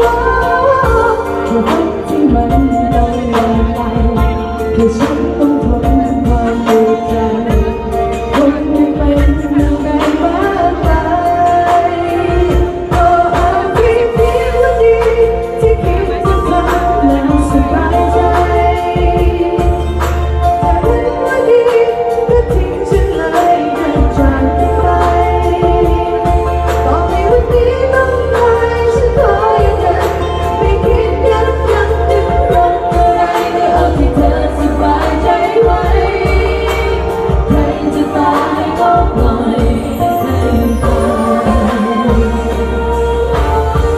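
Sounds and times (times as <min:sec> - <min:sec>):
amplified backing music with drum beat: 0:00.0 - 0:43.9
woman singing into a microphone: 0:00.0 - 0:43.9.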